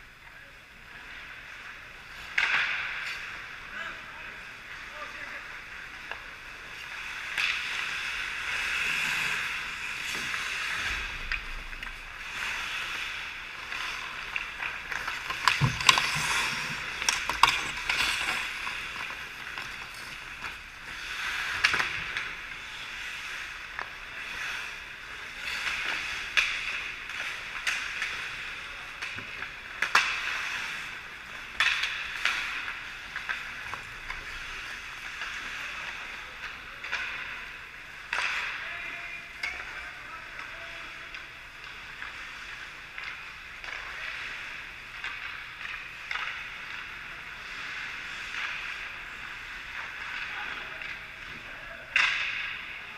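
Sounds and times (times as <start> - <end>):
hockey sticks and puck clacking: 0.9 - 52.9
skate blades scraping ice: 4.4 - 52.8.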